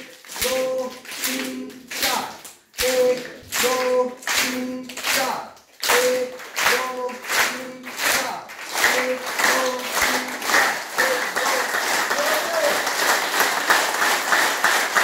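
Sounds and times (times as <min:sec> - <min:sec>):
crowd clapping in unison: 0:00.0 - 0:15.0.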